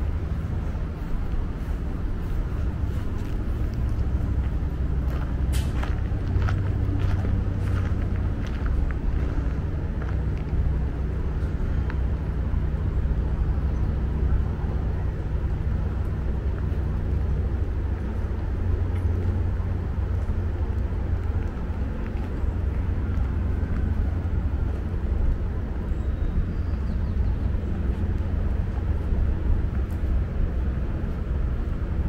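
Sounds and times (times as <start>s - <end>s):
low hum: 0.0s - 32.0s
road traffic rumble: 0.0s - 32.0s.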